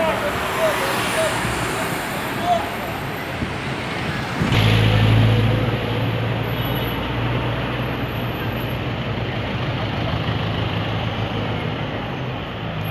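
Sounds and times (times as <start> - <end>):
street traffic noise: 0.0 - 12.9.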